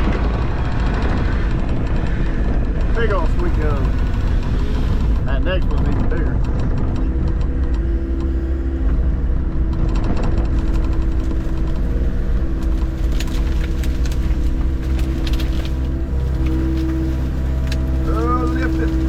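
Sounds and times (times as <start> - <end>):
excavator engine running: 0.0 - 19.0
sharp clicks and clanks: 0.0 - 19.0.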